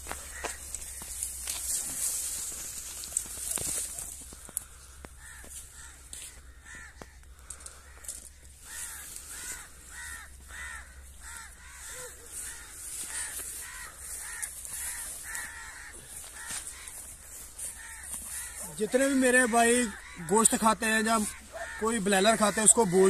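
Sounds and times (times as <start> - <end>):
bird cawing: 0.0 - 23.0.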